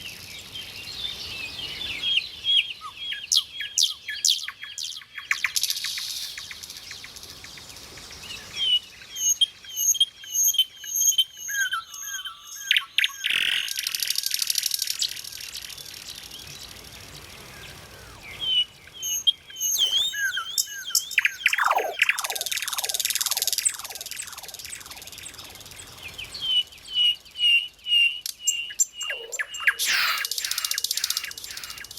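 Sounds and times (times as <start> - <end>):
songbird singing: 0.0 - 31.9.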